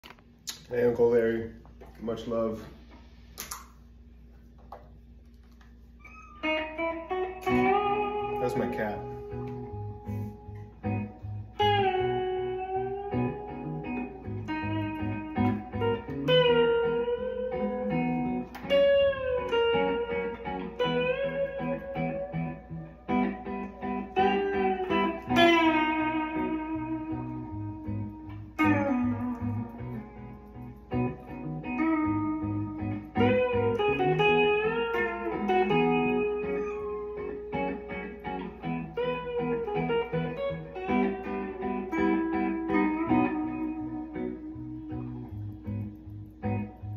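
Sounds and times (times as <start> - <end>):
electric guitar blues lead with bends: 4.5 - 46.9.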